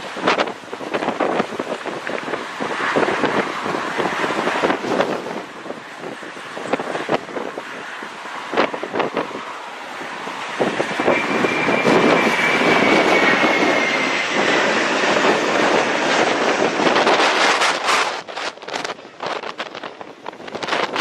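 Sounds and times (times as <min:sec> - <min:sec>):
high jet engine whine: 0:00.0 - 0:21.0
jet airliner passing: 0:00.0 - 0:21.0
wind buffeting microphone: 0:00.0 - 0:21.0.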